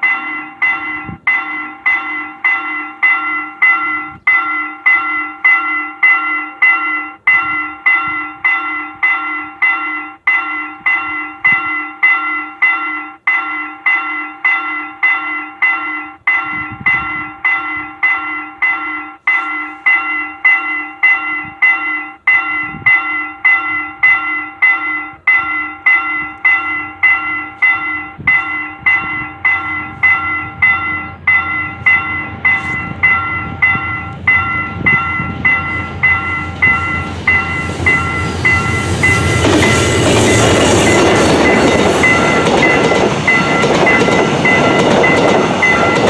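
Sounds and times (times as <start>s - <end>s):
level-crossing warning bell ringing: 0.0s - 46.0s.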